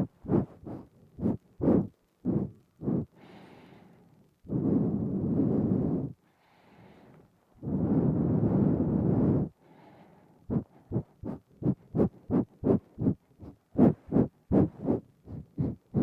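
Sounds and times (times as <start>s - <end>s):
nasal breathing: 0.0s - 16.0s.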